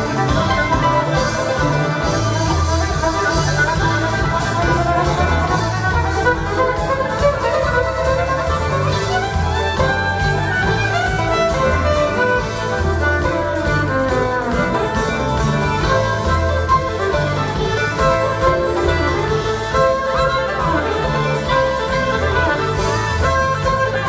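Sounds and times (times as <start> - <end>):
bowed fiddle: 0.0 - 24.0
string band playing: 0.0 - 24.0.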